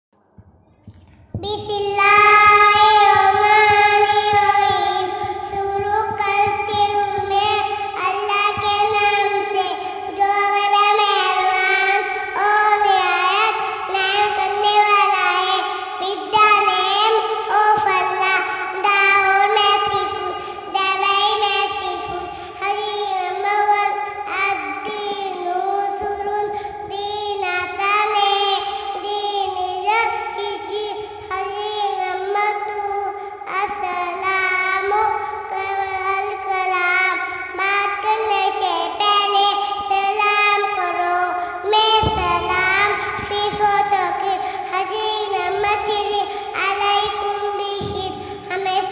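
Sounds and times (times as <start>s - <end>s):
girl singing chant-like recitation: 0.4s - 48.9s.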